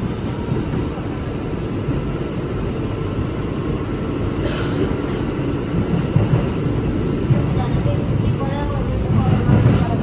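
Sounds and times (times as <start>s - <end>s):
subway car wheels rumbling on rail: 0.0s - 10.0s.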